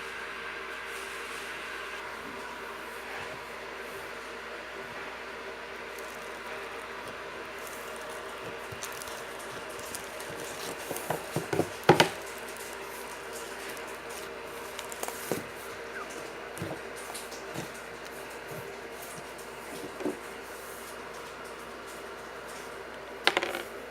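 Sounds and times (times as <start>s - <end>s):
steady background hum: 0.0s - 23.9s.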